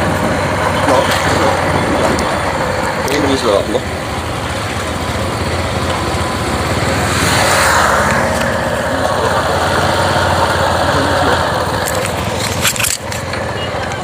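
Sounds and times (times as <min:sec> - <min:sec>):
motorcycle engines running: 0:00.0 - 0:14.0
road and wind noise: 0:00.0 - 0:14.0.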